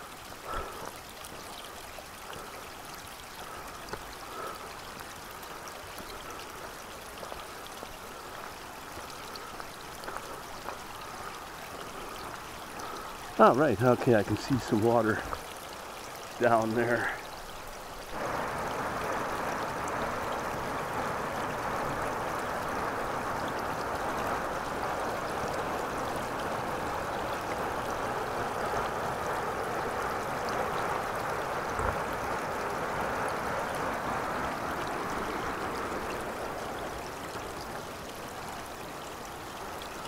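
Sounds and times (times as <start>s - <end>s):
water rushing over rocks: 0.0s - 40.0s.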